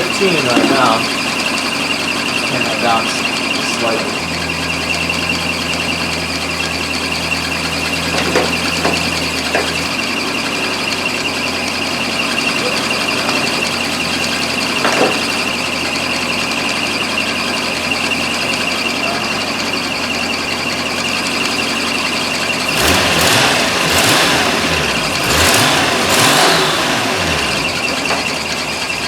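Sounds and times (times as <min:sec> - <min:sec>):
car engine idling: 0:00.0 - 0:29.0
engine revving: 0:00.0 - 0:29.0.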